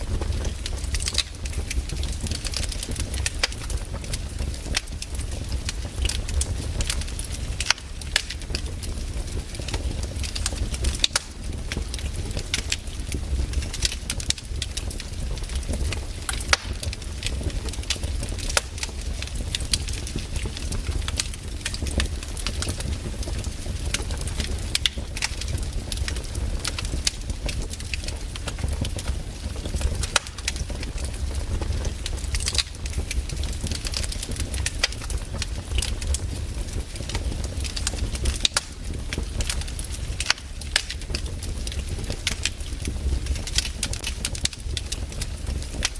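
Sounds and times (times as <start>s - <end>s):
campfire crackling and popping: 0.0s - 45.9s
steady low rumble: 0.0s - 45.9s.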